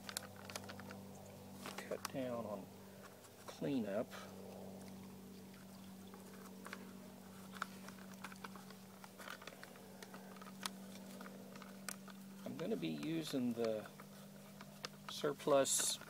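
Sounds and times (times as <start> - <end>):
plastic bag crinkling: 0.0 - 3.7, 4.4 - 16.0
steady low hum: 0.0 - 16.0.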